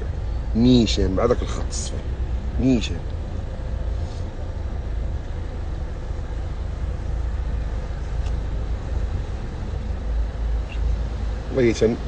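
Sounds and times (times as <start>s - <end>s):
car engine rumble: 0.0s - 12.0s
faint steady hum: 0.0s - 12.0s
road noise: 0.0s - 12.0s.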